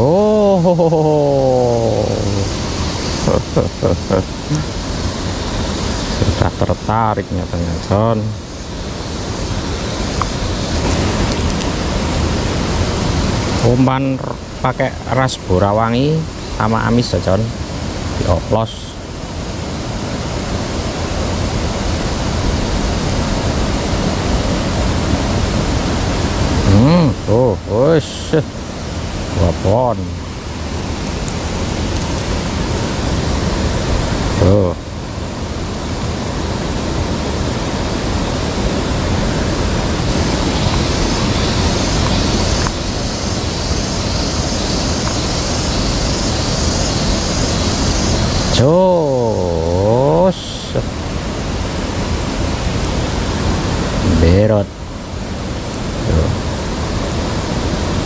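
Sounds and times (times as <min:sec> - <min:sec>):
water flowing in a ditch: 0:00.0 - 0:58.0.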